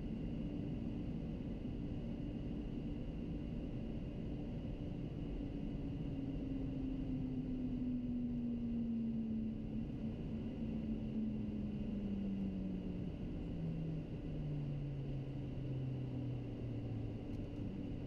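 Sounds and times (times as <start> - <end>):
faint whine: 0.0 - 18.0.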